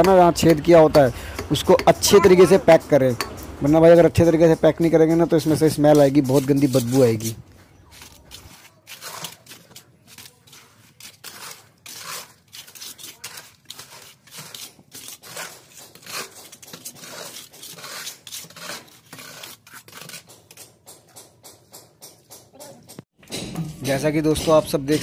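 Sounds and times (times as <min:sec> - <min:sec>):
trowel scraping and patting wet mortar: 0:00.0 - 0:23.0.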